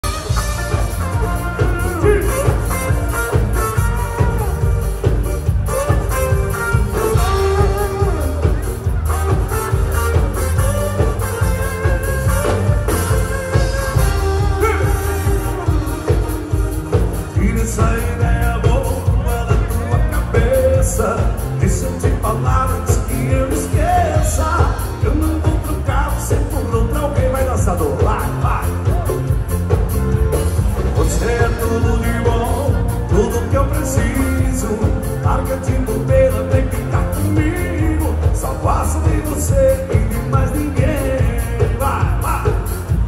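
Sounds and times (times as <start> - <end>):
person singing: 0.0 - 29.8, 30.9 - 43.0
band playing instrumental music: 0.0 - 43.0.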